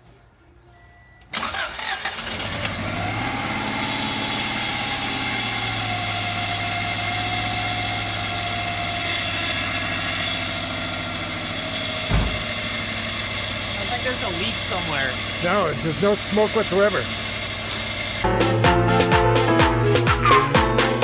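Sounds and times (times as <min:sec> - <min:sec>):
car engine starting and idling: 0:01.2 - 0:21.0.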